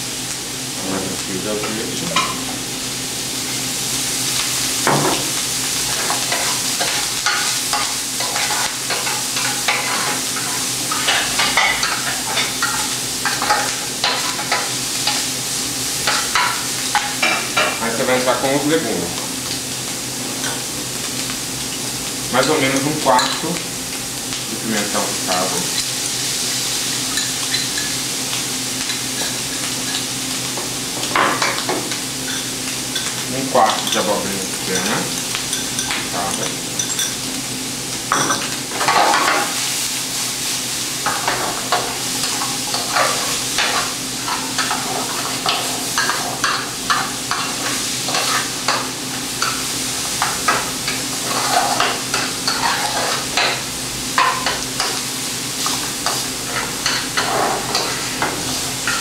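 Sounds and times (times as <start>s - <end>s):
sausage sizzling in oil: 0.0s - 59.0s.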